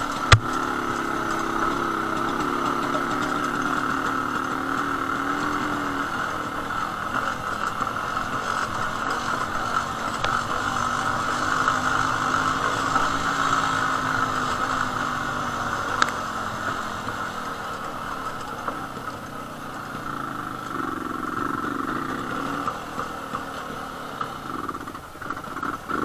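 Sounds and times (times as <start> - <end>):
two-stroke motorcycle engine running: 0.0 - 26.0.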